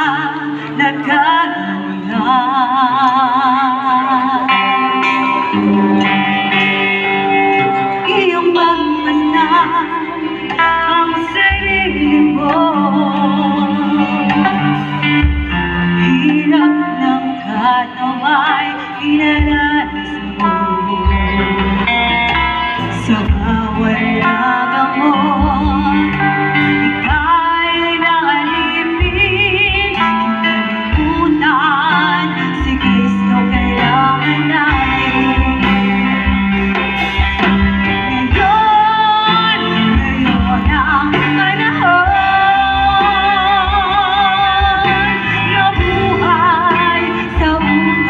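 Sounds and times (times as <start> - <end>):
guitar and bass accompaniment: 0.0 - 48.0
woman singing into microphone: 0.0 - 48.0.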